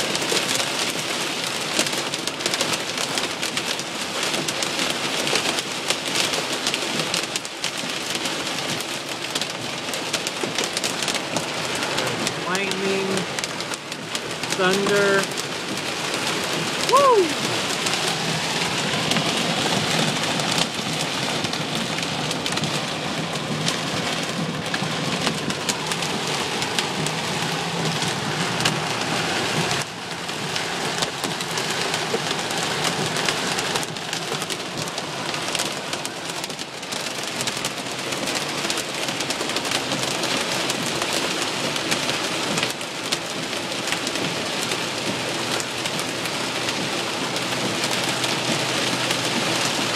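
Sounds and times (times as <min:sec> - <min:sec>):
hailstones ticking: 0:00.0 - 0:49.9
heavy rain hissing on car: 0:00.0 - 0:49.9.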